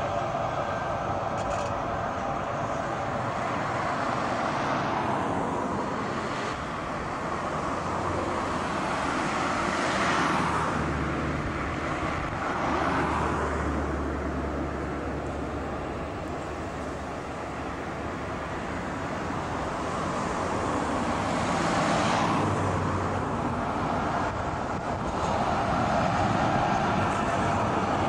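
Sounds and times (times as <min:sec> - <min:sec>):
passing cars: 0:00.0 - 0:28.0
tram low hum: 0:00.0 - 0:28.0.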